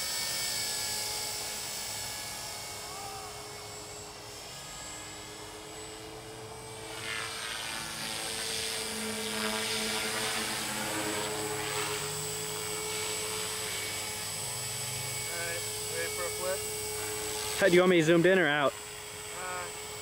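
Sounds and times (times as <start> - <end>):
electric motor and gears whining: 0.0 - 20.0
helicopter rotor blades whirring: 0.0 - 20.0.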